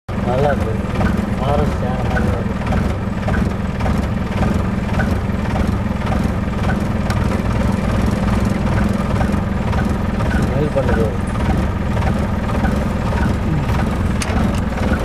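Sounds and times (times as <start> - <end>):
vehicle engine idling: 0.1 - 15.0.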